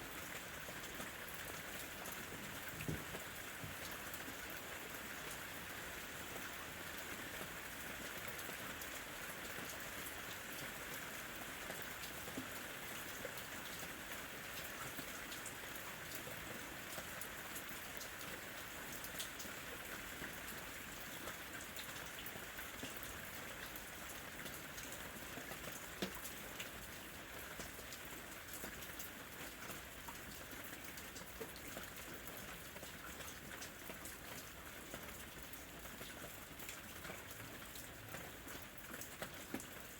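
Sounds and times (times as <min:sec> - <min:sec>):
steady rain falling: 0:00.0 - 0:39.9
raindrops ticking close by: 0:00.1 - 0:39.9.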